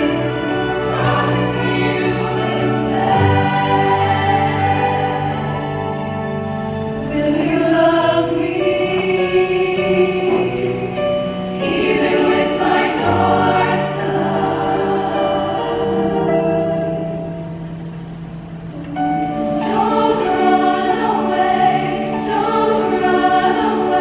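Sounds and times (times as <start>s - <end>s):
women's choir singing in harmony: 0.0s - 24.0s.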